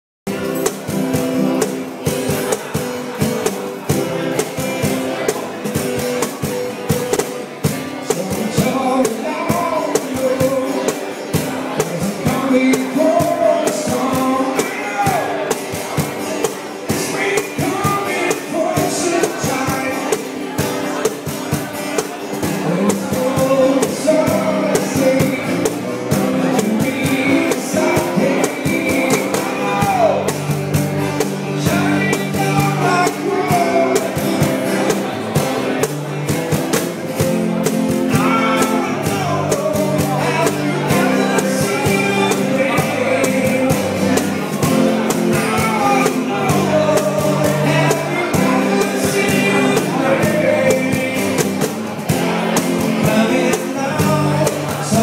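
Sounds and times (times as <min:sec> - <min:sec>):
acoustic guitar strumming: 0:00.3 - 0:55.0
man singing into microphone: 0:07.6 - 0:36.4, 0:37.2 - 0:55.0.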